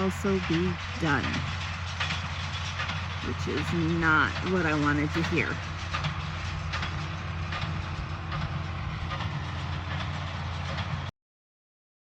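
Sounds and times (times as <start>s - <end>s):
tractor engine hum: 0.0s - 11.1s.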